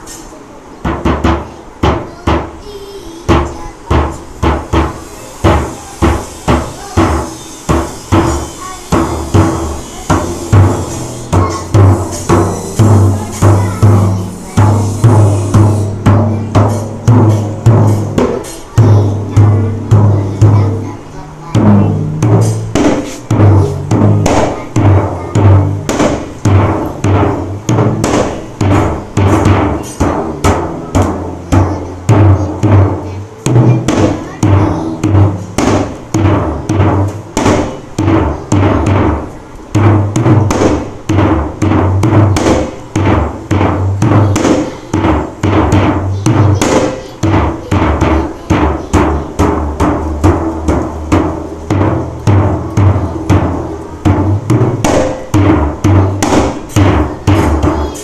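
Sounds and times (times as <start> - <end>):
drum struck in quick rhythm: 0.0 - 58.0.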